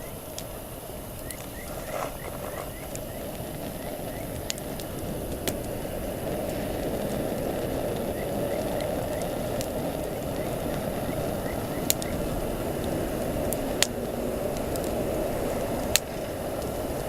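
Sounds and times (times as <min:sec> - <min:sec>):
campfire burning: 0:00.0 - 0:17.0
crackling pops from burning wood: 0:00.0 - 0:17.0.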